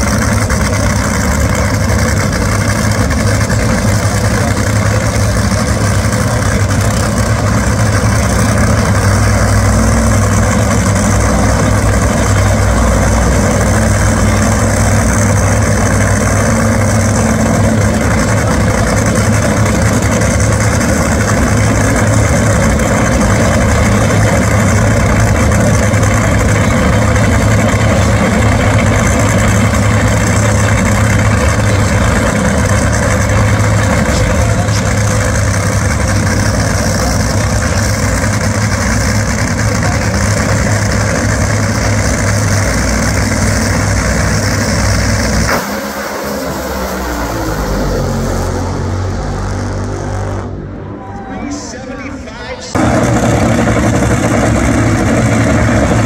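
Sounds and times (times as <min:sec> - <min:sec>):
dragster engines idling loudly: 0:00.0 - 0:56.0.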